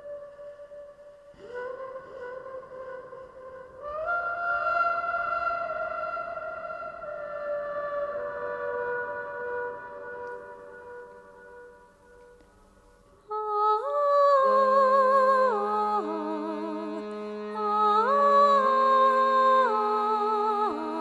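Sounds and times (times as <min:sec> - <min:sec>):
slow wordless melody with vibrato: 0:00.0 - 0:21.0.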